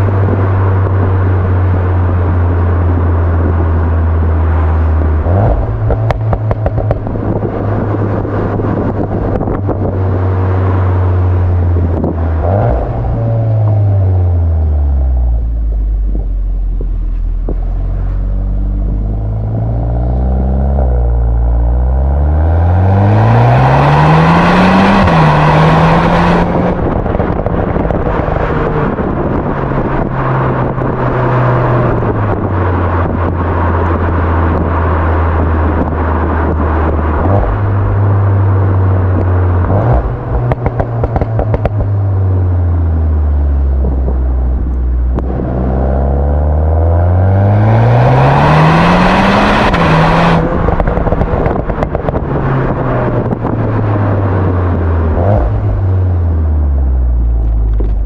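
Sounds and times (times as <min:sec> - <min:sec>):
car engine revving: 0:00.0 - 0:58.0
exhaust crackles: 0:00.0 - 0:58.0.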